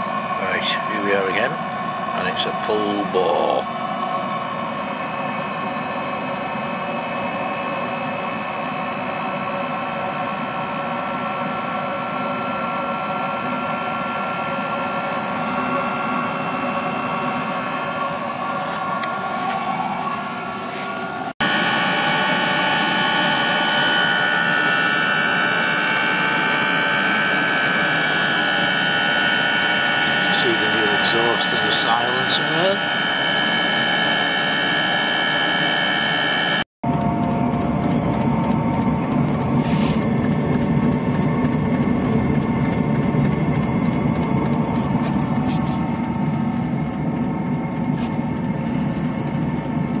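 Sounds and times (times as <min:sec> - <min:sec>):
diesel heater exhaust whine: 0:00.0 - 0:50.0.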